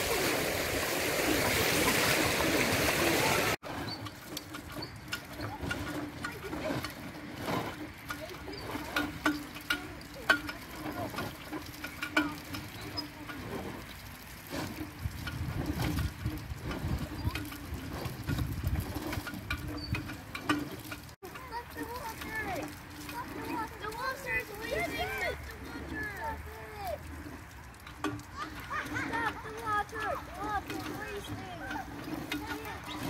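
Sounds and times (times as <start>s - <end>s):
pool water splashing: 0.0s - 33.0s
water trickling from hand pump: 0.0s - 33.0s.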